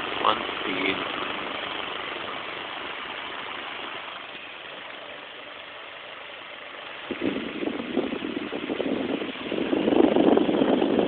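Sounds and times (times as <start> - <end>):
electric fan motor hum: 0.0 - 11.0.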